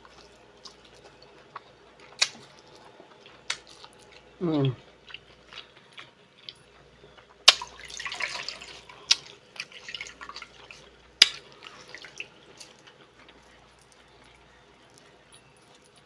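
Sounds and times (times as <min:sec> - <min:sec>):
sauce dripping and squelching: 0:00.0 - 0:06.6, 0:07.2 - 0:14.0.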